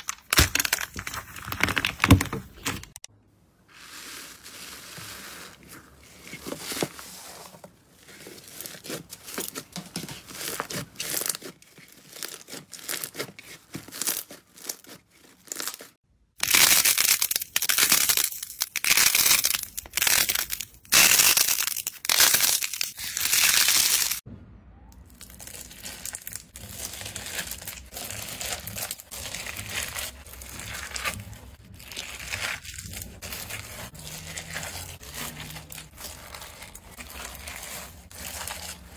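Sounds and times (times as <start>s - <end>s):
soft clay squished and crackling: 0.0s - 38.9s.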